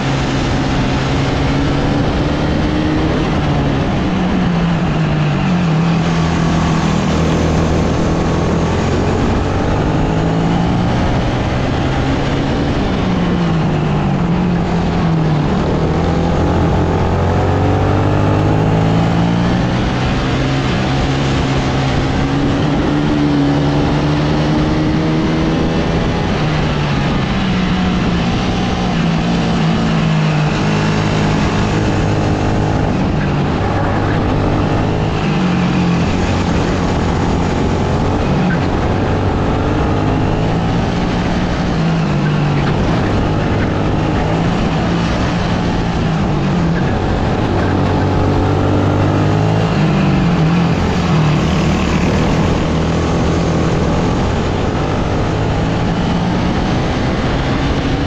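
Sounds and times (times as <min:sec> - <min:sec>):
kart engine racing: 0:00.0 - 0:58.0.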